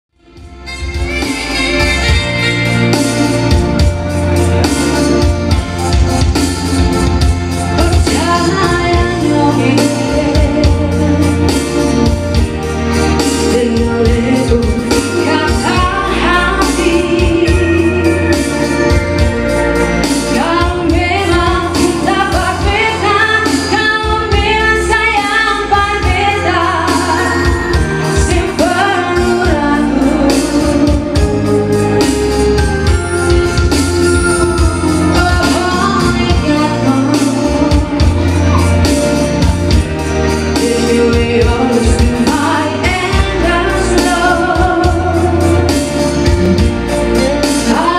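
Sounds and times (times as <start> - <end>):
live band playing: 0.1 - 47.9
woman singing into a microphone: 7.5 - 33.0, 33.8 - 39.8, 40.5 - 47.9.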